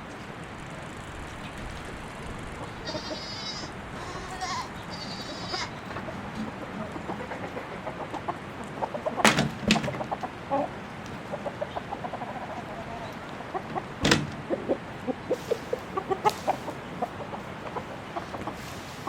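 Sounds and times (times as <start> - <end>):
chickens clucking: 1.0 - 19.0.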